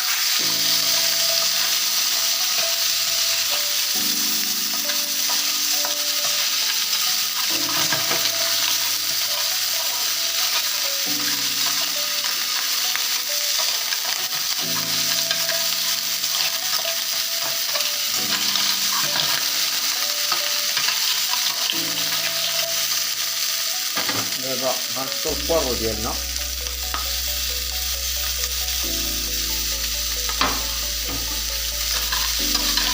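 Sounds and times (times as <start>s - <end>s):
seafood frying in hot oil: 0.0s - 32.9s.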